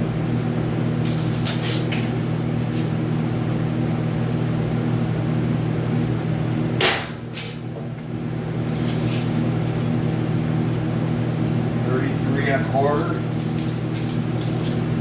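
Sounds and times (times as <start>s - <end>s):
electrical machine hum: 0.0s - 15.0s.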